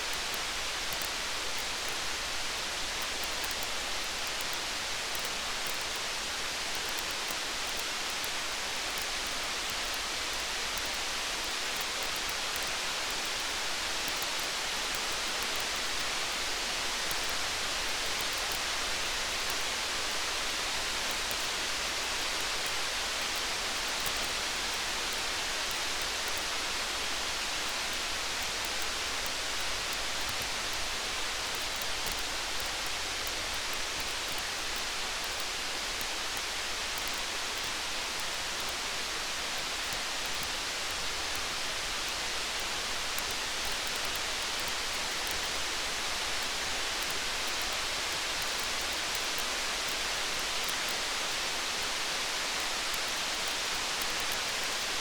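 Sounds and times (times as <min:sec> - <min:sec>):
steady rain hiss: 0:00.0 - 0:55.0
faint sharp ticks: 0:00.1 - 0:55.0.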